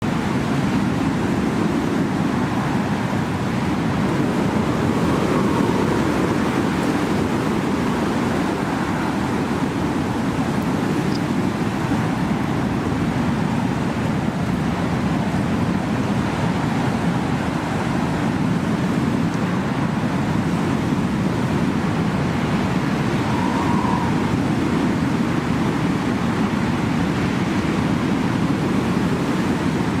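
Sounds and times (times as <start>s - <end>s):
blizzard wind blowing: 0.0s - 30.0s.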